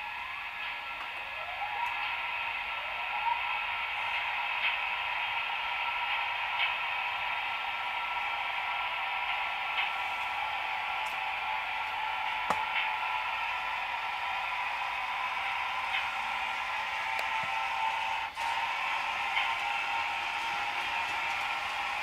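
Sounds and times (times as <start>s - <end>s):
model train mechanical whine: 0.0s - 22.0s.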